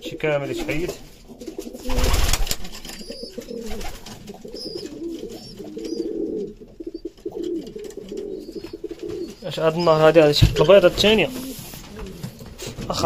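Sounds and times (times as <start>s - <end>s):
pigeons cooing: 0.3s - 13.0s.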